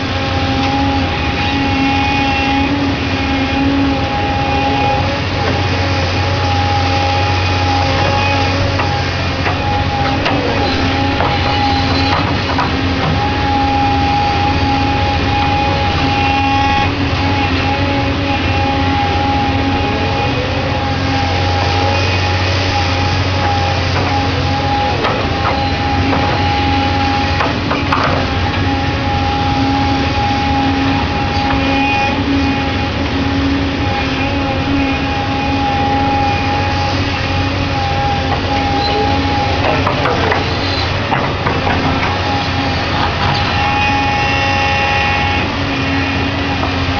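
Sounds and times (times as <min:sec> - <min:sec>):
excavator engine with high whine: 0:00.0 - 0:46.9.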